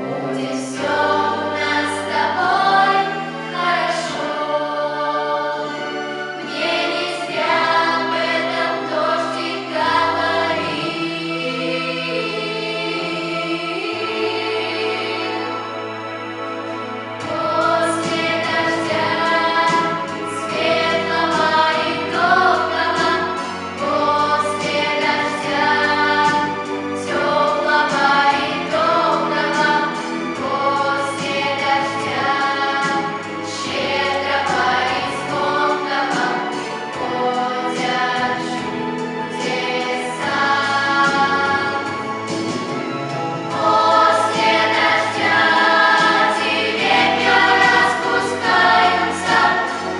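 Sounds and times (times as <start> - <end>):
instrumental accompaniment: 0.0 - 49.9
vocal ensemble singing: 0.0 - 49.9.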